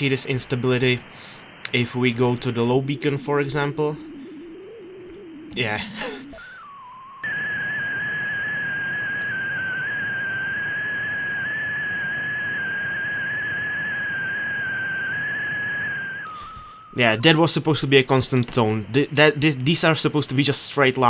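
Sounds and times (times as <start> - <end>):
receiver hiss: 0.0 - 21.0
whistling radio tone: 1.7 - 19.3.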